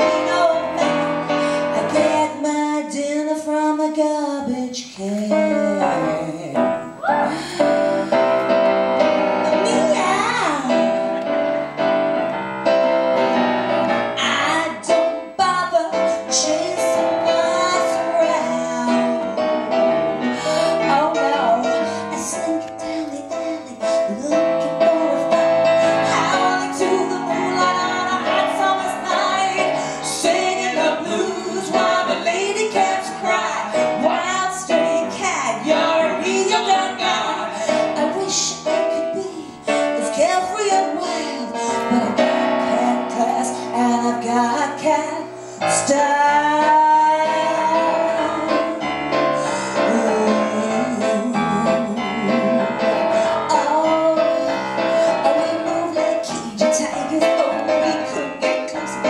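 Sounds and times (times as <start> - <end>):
woman singing into a microphone: 0.0 - 8.2, 9.5 - 11.4, 14.1 - 19.7, 20.6 - 48.9, 49.7 - 59.0
grand piano: 0.0 - 59.0.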